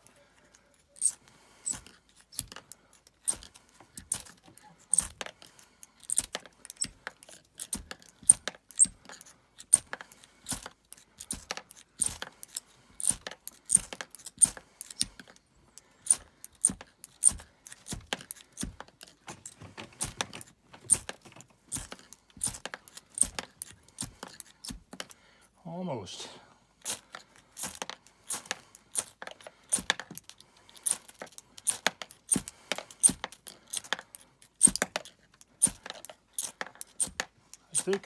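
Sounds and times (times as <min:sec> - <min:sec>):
striker scraping fire-starter rod: 0:00.9 - 0:15.4, 0:16.0 - 0:25.5, 0:26.6 - 0:38.0.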